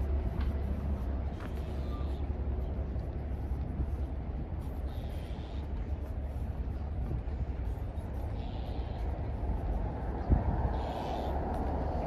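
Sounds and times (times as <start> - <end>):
hazy background noise: 0.0 - 12.0
steady low rumble: 0.0 - 12.0.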